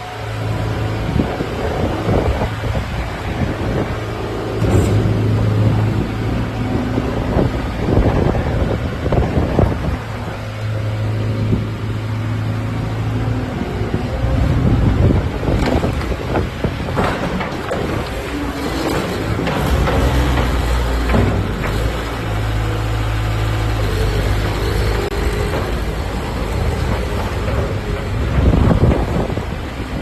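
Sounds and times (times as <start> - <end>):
diesel engine droning: 0.0 - 30.0
wind noise on microphone: 0.0 - 30.0.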